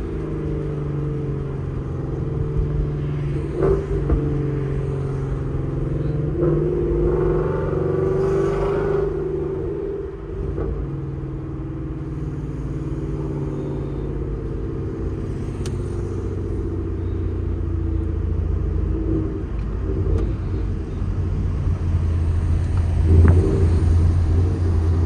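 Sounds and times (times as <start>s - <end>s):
car exhaust rumbling: 0.0s - 25.0s.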